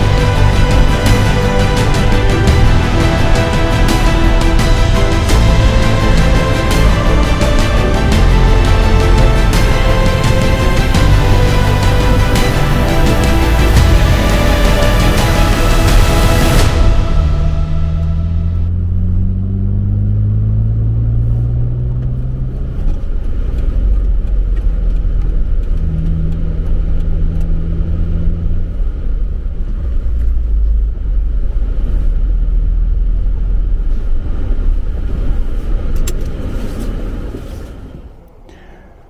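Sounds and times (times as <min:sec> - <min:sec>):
vehicle engine accelerating: 0:00.0 - 0:36.0
road noise: 0:00.0 - 0:39.0.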